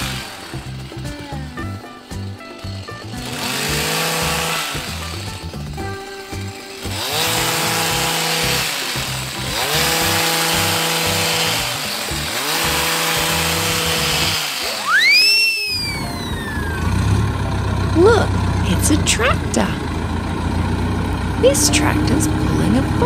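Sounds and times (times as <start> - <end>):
background music: 0.0 - 20.2, 21.0 - 23.0
hedge trimmer revving: 0.0 - 23.0.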